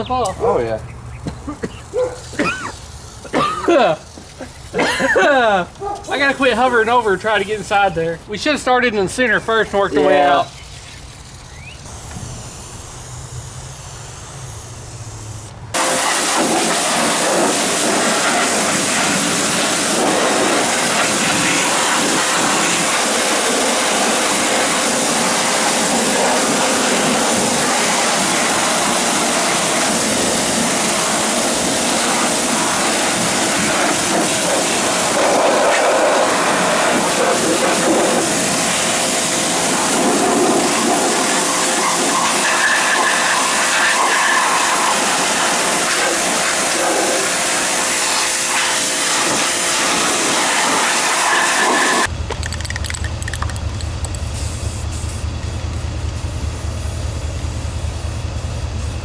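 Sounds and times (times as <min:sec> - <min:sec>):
spraying hiss: 0:01.2 - 0:08.6, 0:09.2 - 0:52.1, 0:54.2 - 0:55.3, 0:56.2 - 0:59.0.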